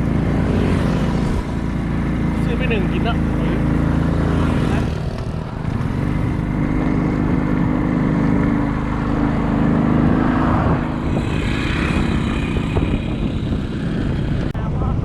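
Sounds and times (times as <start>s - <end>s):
vehicle engine running: 0.0s - 14.6s
road and wind noise: 0.0s - 15.0s.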